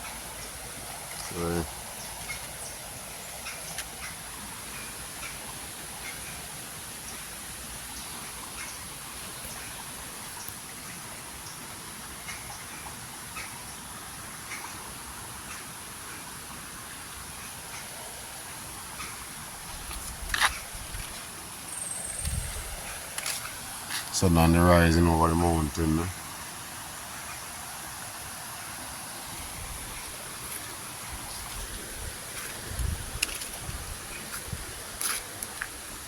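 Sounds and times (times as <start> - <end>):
flowing river water: 0.0 - 36.0
steady high-pitched hiss: 0.0 - 36.0.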